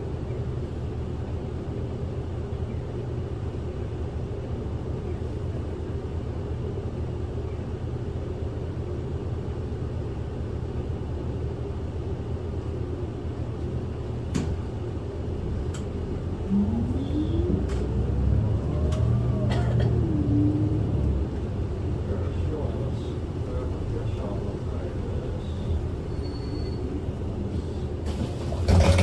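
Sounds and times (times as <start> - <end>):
bus engine hum and road rumble: 0.0 - 29.0.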